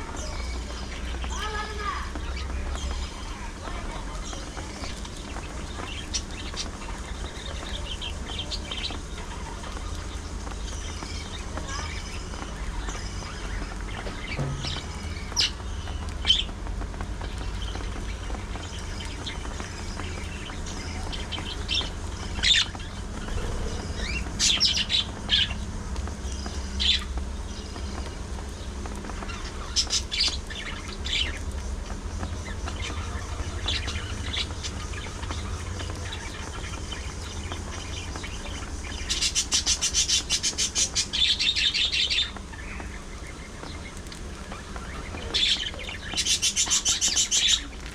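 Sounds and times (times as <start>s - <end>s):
budgerigars chirping: 0.0s - 16.5s, 17.2s - 47.9s
rapid bird chatter: 0.0s - 47.9s.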